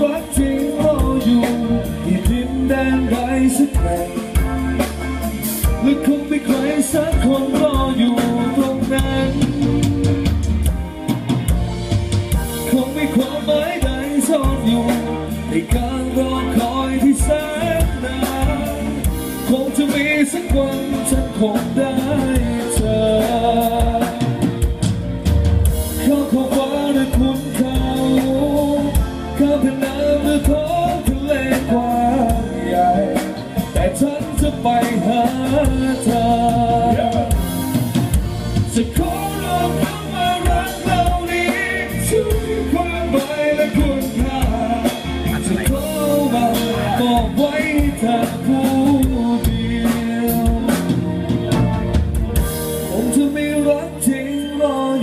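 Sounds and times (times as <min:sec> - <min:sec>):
person singing: 0:00.0 - 0:11.0, 0:12.5 - 0:25.0, 0:25.9 - 0:37.8, 0:38.6 - 0:55.0
drum kit beat: 0:00.0 - 0:55.0
electric guitar: 0:00.0 - 0:55.0
pop rock band playing live: 0:00.0 - 0:55.0.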